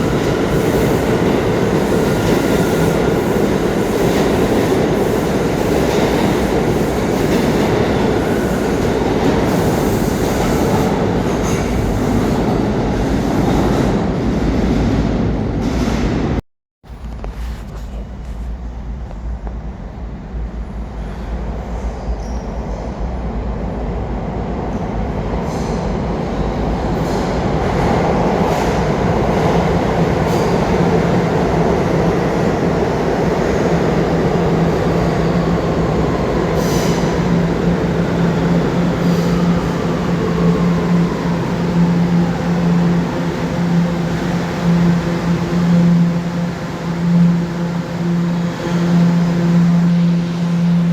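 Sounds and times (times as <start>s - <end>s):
subway train rumble: 0.0s - 50.9s.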